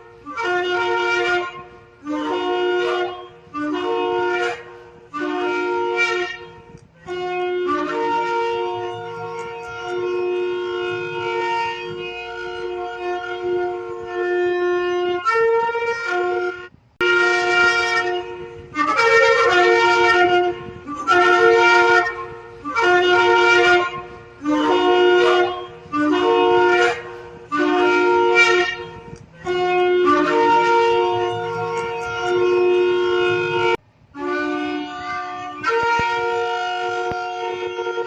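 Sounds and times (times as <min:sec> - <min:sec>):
ram's horn blowing: 0:00.0 - 0:38.0.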